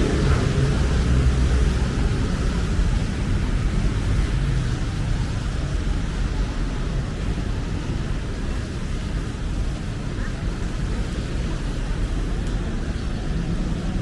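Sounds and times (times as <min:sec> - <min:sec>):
even street hiss: 0:00.0 - 0:14.0
traffic rumble: 0:00.0 - 0:14.0.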